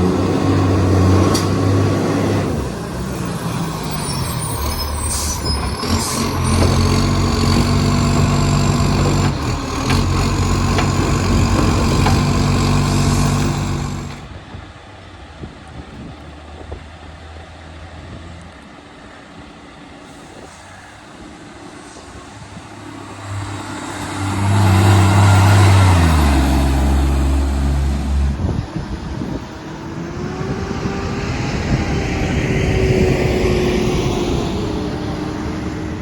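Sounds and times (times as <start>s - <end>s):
diesel truck engine passing: 0.0s - 15.4s, 16.0s - 36.0s.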